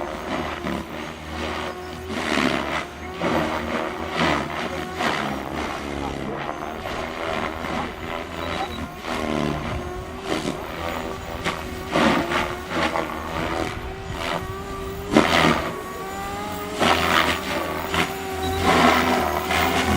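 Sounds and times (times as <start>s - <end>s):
radio-controlled helicopter flying: 0.0s - 19.9s.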